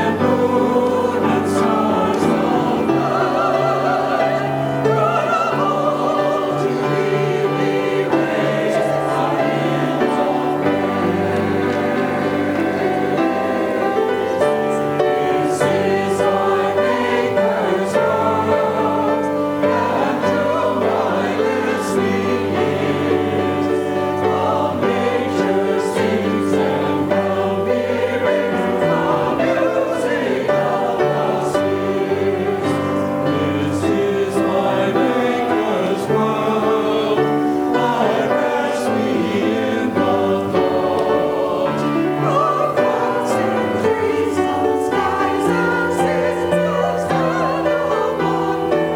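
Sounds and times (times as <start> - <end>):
church choir singing: 0.0 - 48.9
sustained instrumental accompaniment: 0.0 - 48.9.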